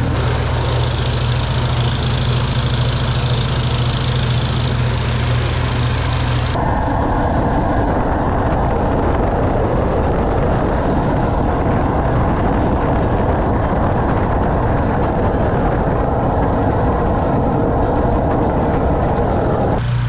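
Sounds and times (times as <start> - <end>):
faint regular ticking: 0.0 - 19.8
drain-cleaning machine running: 0.0 - 20.0.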